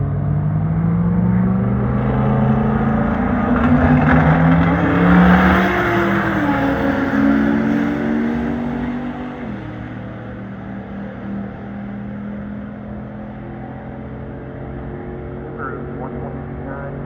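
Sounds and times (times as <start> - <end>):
car engine revving: 0.0 - 17.0
car engines running: 0.0 - 17.0.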